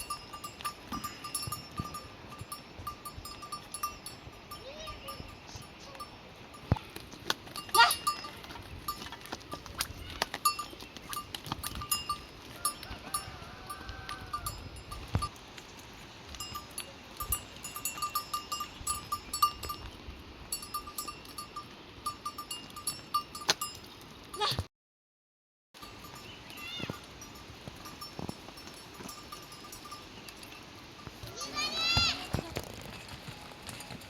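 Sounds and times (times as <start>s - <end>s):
livestock bells clinking: 0.0s - 15.5s, 16.1s - 24.6s, 25.8s - 34.0s.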